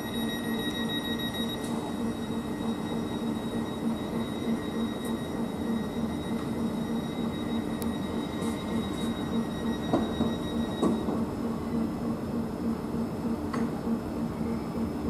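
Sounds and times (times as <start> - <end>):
high-pitched whine: 0.0 - 12.2
train equipment hum: 0.0 - 15.0.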